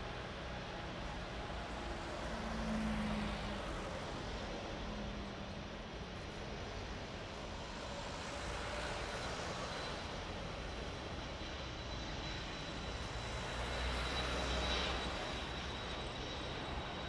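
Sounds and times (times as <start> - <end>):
high jet engine whine: 0.0 - 17.0
jet engines roaring at takeoff: 0.0 - 17.0
low rumble of passing jet: 0.0 - 17.0.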